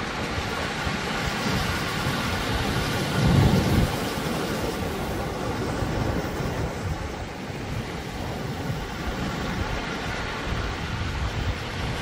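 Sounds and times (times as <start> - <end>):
waves breaking on rocky shore: 0.0 - 12.0.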